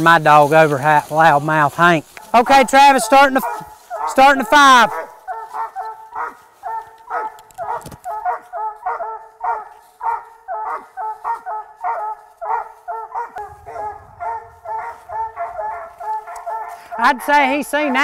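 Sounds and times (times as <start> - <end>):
dog barking: 2.9 - 18.0.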